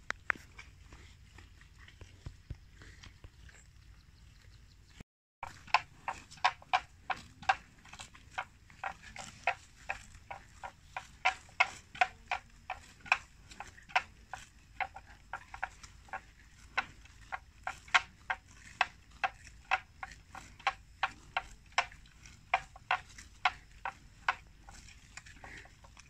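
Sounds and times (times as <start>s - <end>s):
grass being torn by grazing: 0.0s - 4.6s, 5.4s - 26.0s.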